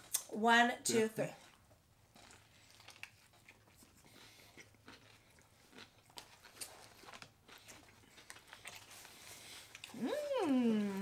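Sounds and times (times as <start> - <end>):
people chewing sandwiches: 0.9 - 11.0.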